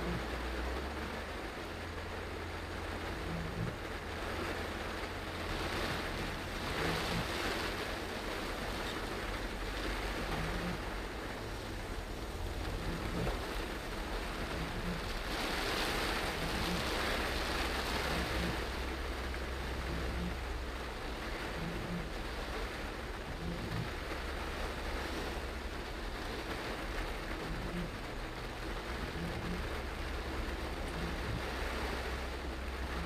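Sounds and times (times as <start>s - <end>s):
heavy rain on car roof: 0.0s - 33.0s
low road rumble: 0.0s - 33.0s.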